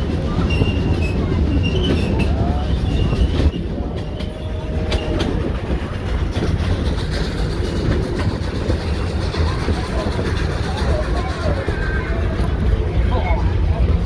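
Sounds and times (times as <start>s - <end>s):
train rumble: 0.0s - 14.0s
wheels clacking over rails: 0.0s - 14.0s.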